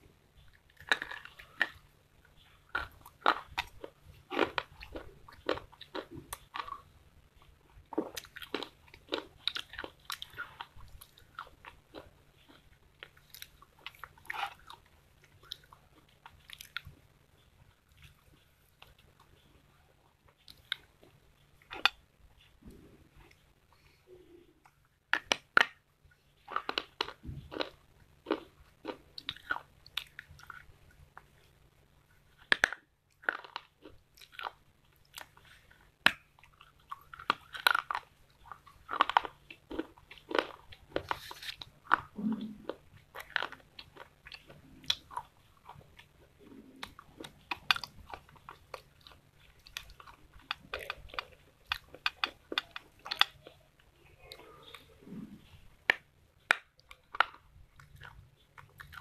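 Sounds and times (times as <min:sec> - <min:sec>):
faint low hum: 0:00.0 - 0:59.0.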